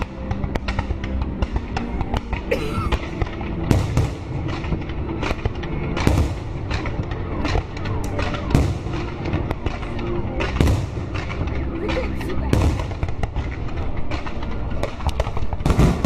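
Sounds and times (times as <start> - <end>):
constant low rumble: 0.0 - 16.0
fireworks bangs and crackles: 0.0 - 16.0.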